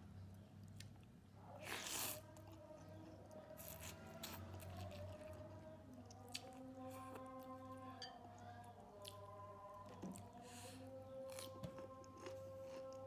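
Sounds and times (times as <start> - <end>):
faint background music: 0.0 - 13.0
soft chewing: 0.6 - 13.0.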